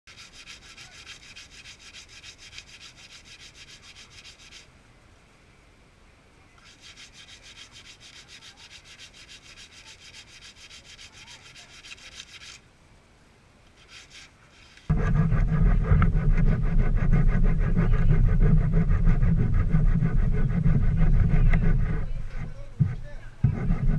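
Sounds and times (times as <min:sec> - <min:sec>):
hand sanding rasping strokes: 0:00.1 - 0:04.7, 0:06.6 - 0:12.6, 0:13.7 - 0:23.9.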